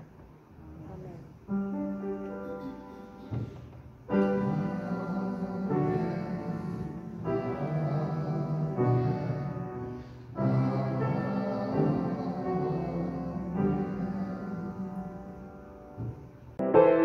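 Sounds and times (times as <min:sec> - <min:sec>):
slow keyboard chords: 0:01.6 - 0:17.0.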